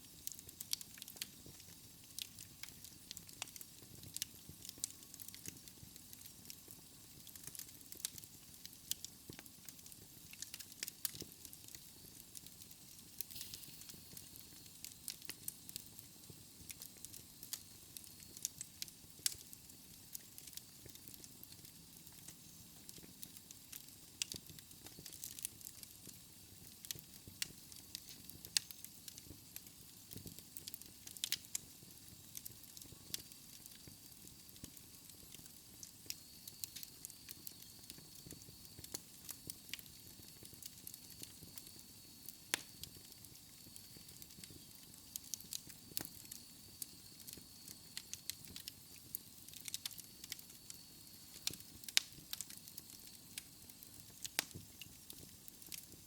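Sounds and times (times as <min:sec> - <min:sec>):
burning logs crackling and popping: 0:00.0 - 0:56.0
hiss and rumble of flames: 0:00.0 - 0:56.0.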